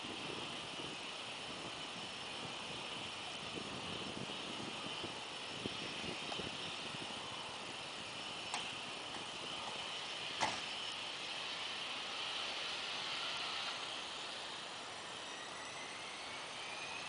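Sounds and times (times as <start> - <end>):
distant jet engines hissing: 0.0 - 17.0.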